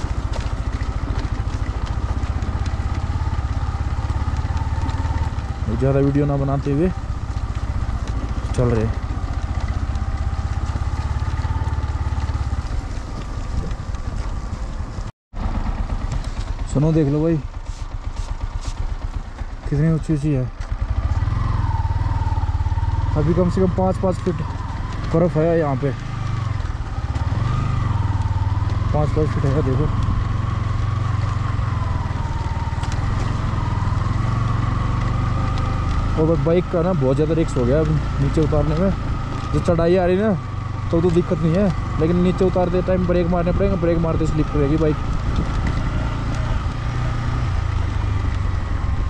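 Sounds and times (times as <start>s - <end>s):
motorcycle engine pulsing: 0.0s - 49.0s.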